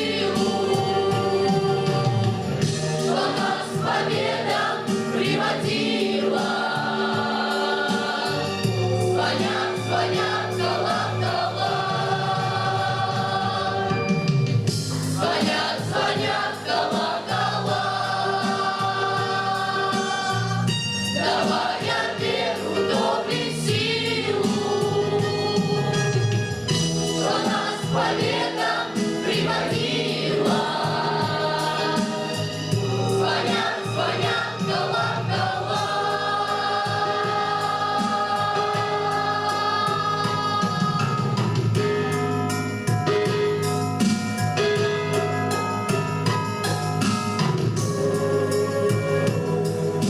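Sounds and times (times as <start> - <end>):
choir singing held notes: 0.0 - 26.0, 26.7 - 41.8, 47.7 - 50.0.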